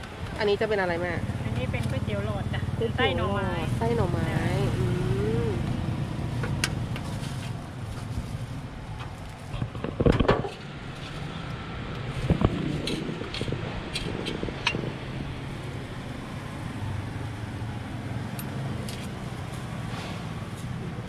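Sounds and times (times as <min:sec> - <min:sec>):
street traffic hum: 0:00.0 - 0:21.0.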